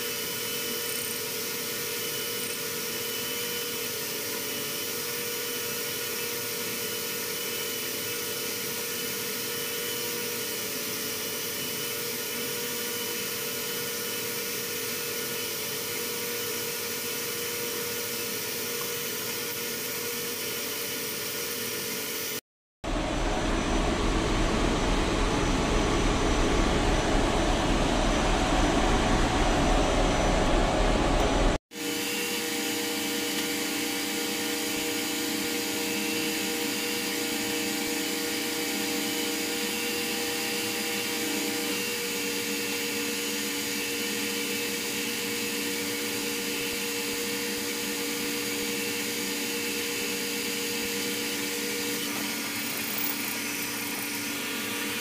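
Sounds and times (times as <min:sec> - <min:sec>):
engine-room machinery drone: 0:00.0 - 0:21.7, 0:22.8 - 0:55.0.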